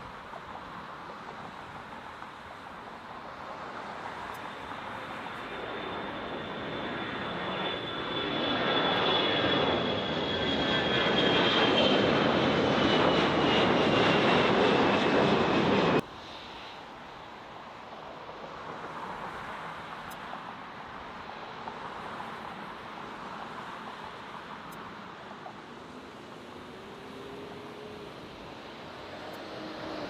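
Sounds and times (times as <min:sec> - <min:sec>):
jet airliner engines passing: 0:00.0 - 0:30.0.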